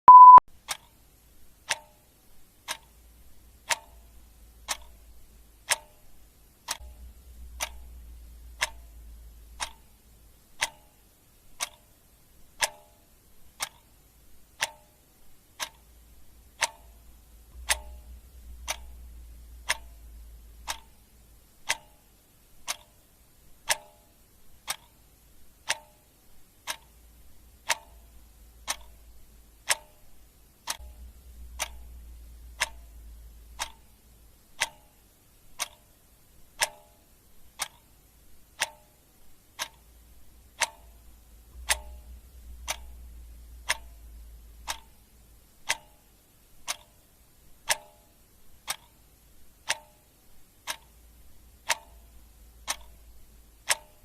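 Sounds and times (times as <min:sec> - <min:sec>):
clock ticking: 0:00.1 - 0:54.0
faint low rumble: 0:02.3 - 0:54.0.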